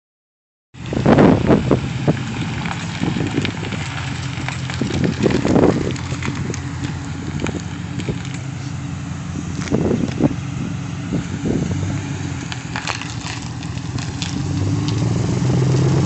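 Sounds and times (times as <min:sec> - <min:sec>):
pickup engine humming: 0:00.8 - 0:16.0
wind buffeting microphone: 0:00.8 - 0:16.0.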